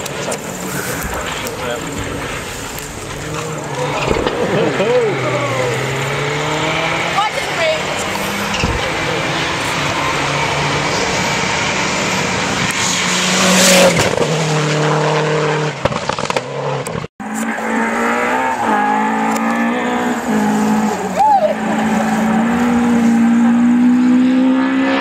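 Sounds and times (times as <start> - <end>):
distant rally car revving: 0.0 - 25.0
rally car passing at full throttle: 0.0 - 25.0.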